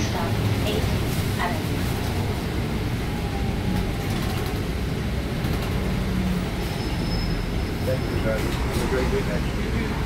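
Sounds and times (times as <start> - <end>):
bus engine rumbling: 0.0 - 10.0
tyres on a wet road: 0.0 - 10.0.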